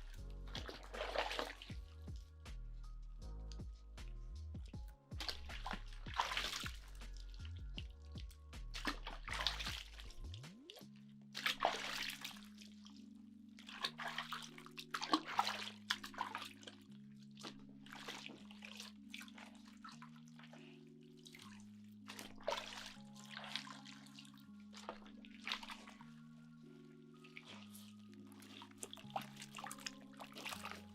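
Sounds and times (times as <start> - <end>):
water splashing and dripping: 0.0 - 2.3, 4.6 - 30.9
soft slow music: 0.0 - 30.9.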